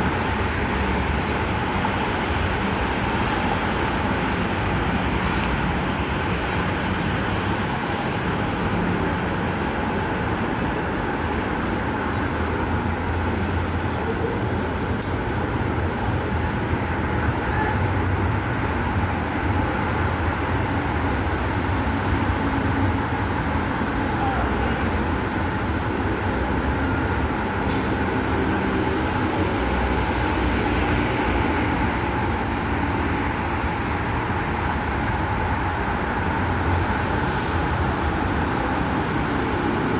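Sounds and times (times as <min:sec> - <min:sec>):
metro train rumbling: 0:00.0 - 0:39.9.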